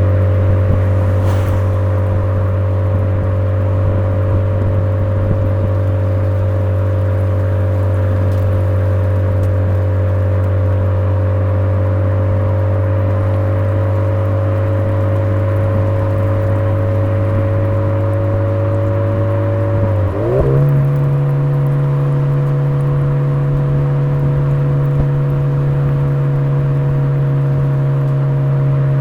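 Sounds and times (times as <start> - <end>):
car exhaust drone: 0.0 - 29.0.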